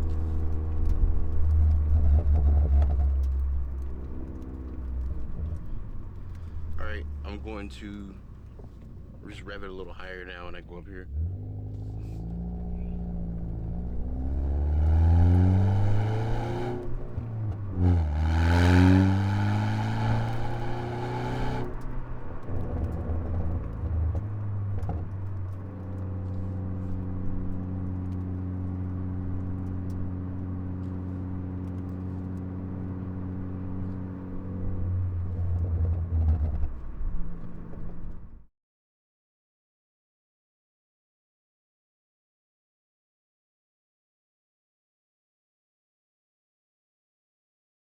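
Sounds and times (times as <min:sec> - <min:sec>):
exhaust crackling and popping: 0:00.0 - 0:38.4
car engine revving and idling: 0:00.0 - 0:38.5.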